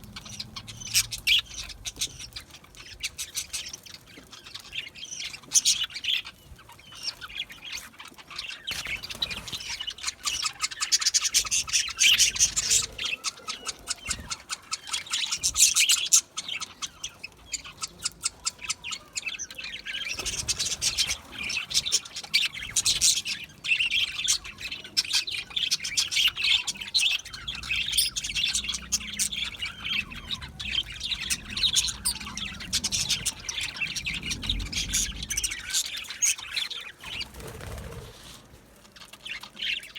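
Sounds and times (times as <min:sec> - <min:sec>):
budgerigars chattering and chirping: 0:00.0 - 0:37.8, 0:38.8 - 0:39.9.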